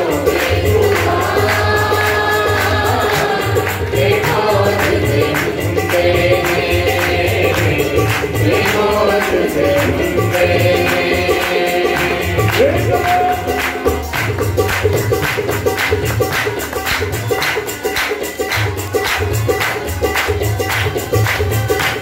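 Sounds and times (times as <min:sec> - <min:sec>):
hand claps: 0:00.0 - 0:22.0
harmonium melody: 0:00.0 - 0:22.0
tabla strokes: 0:00.0 - 0:22.0.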